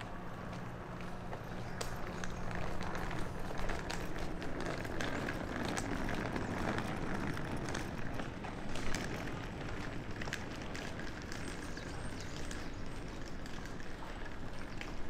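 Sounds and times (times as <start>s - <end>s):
constant background hum: 0.0s - 15.0s.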